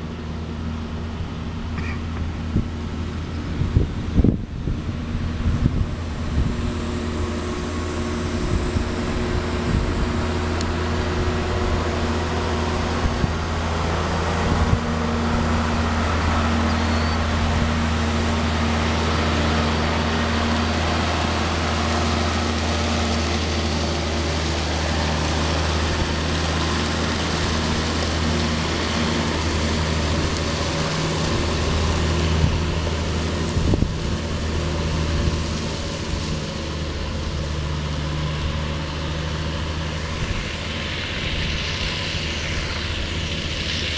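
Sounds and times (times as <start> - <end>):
dump truck diesel engine: 0.0 - 43.9.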